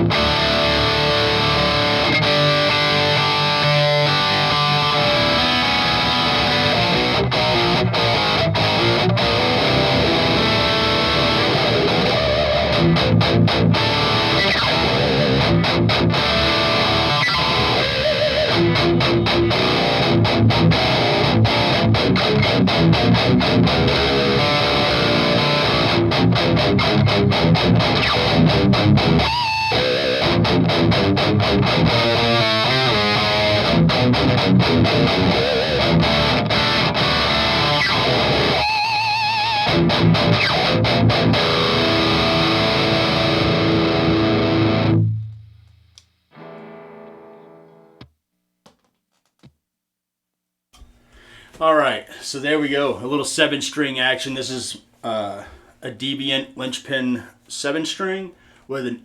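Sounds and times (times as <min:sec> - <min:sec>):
distorted electric guitar riffing: 0:00.0 - 0:48.0.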